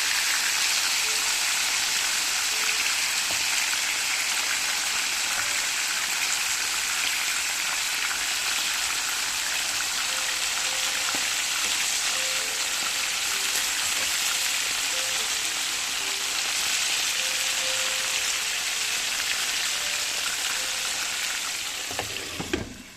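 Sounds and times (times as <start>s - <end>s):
chicken wings frying in oil: 0.0s - 22.9s.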